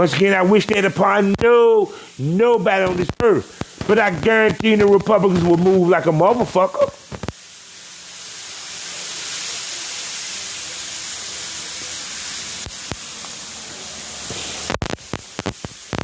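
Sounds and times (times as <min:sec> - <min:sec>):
airy hiss: 0:00.0 - 0:16.0.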